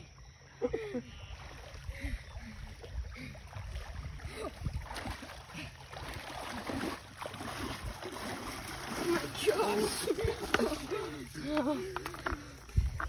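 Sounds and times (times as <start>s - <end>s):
water splashing from wading: 1.1s - 13.0s.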